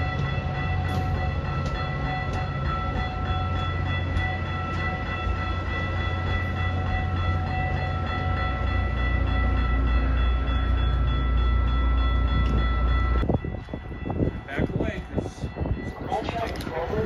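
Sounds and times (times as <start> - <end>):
train heavy rumble: 0.0 - 17.0.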